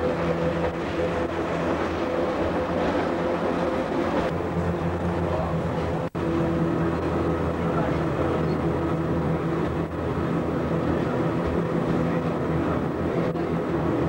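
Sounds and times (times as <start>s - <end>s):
rack railway car running: 0.0s - 14.0s.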